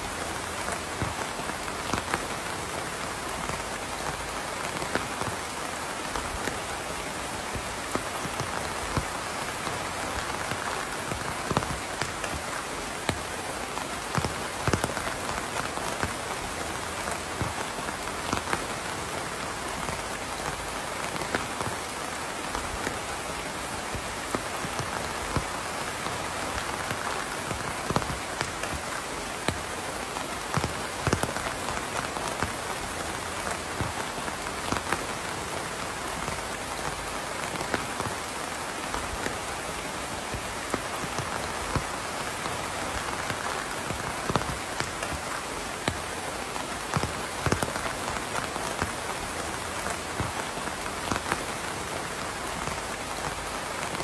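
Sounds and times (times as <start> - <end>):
raindrops hitting a surface: 0.0 - 54.0
steady rain hissing: 0.0 - 54.0.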